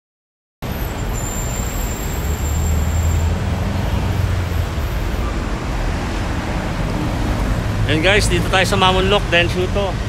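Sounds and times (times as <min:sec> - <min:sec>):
road traffic rumble: 0:00.6 - 0:10.0.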